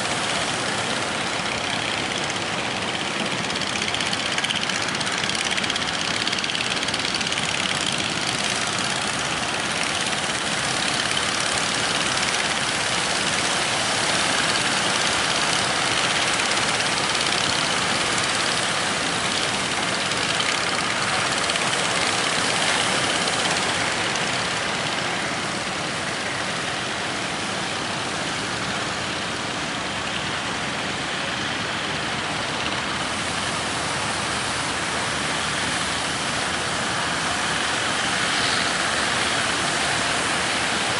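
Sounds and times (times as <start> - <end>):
boat engine running: 0.0 - 40.9
wind and water rushing: 0.0 - 40.9.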